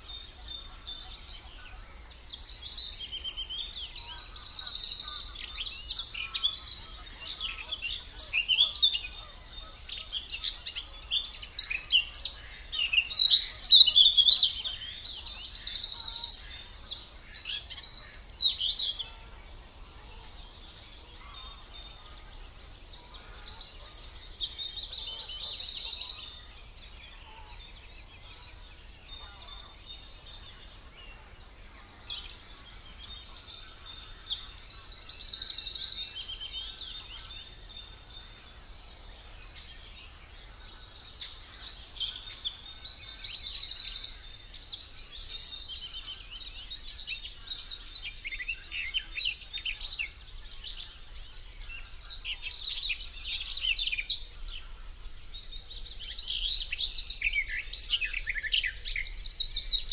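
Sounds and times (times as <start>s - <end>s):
songbird chattering song: 0.0s - 59.9s.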